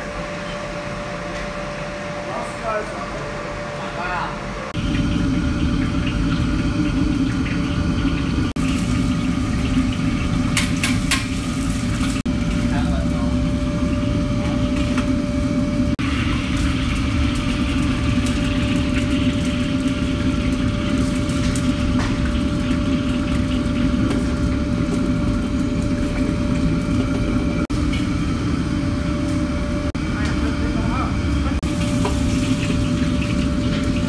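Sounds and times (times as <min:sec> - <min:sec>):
gas burner roaring: 0:00.0 - 0:34.0
hot oil sizzling: 0:04.0 - 0:34.0.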